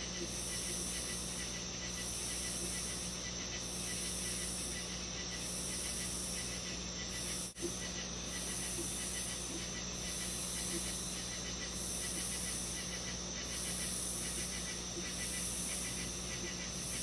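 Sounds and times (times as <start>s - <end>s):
background hiss: 0.0s - 17.0s
faint high buzzing: 0.0s - 17.0s.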